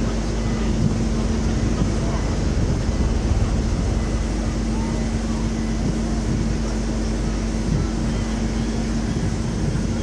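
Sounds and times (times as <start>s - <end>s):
ferry machinery hum: 0.0s - 10.0s.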